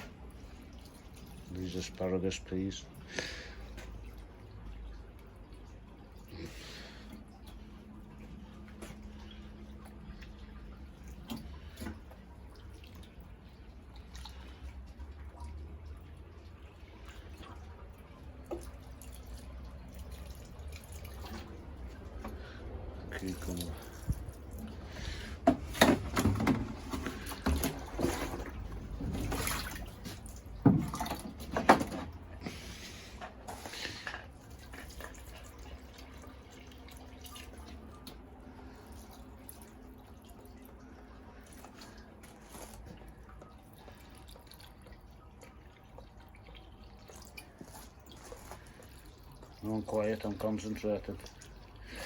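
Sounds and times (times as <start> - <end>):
water running and splashing: 0.0 - 52.0
water trickling: 0.0 - 52.0.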